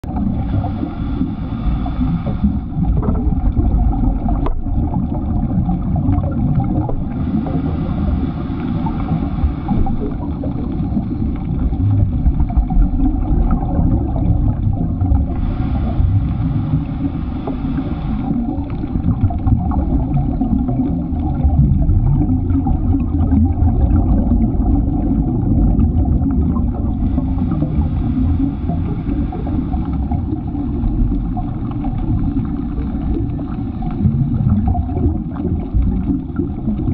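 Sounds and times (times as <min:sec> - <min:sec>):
bubbles hissing: 0:00.0 - 0:36.9
underwater rumble: 0:00.0 - 0:36.9.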